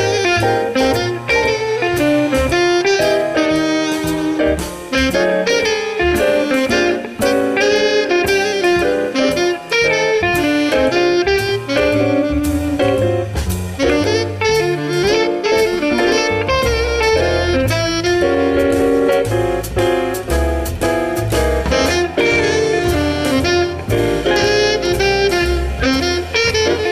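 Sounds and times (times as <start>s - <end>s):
bass: 0.0s - 26.9s
drum kit: 0.0s - 26.9s
saxophone jazz melody: 0.0s - 26.9s.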